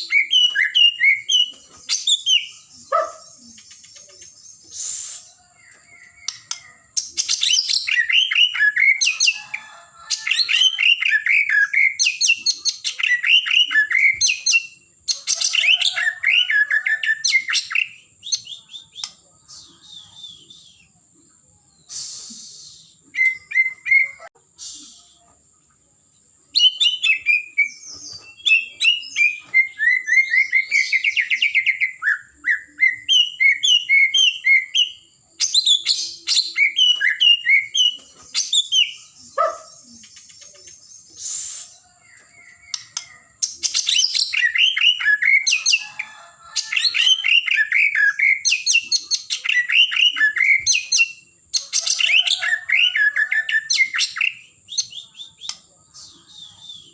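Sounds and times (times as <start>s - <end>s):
songbird singing trills and whistles: 0.0s - 25.8s, 26.4s - 56.9s.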